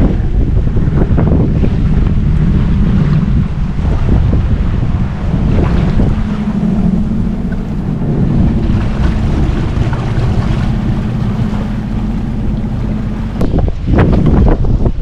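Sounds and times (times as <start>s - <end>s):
jet ski engine humming: 0.0s - 15.0s
wind buffeting microphone: 0.0s - 15.0s.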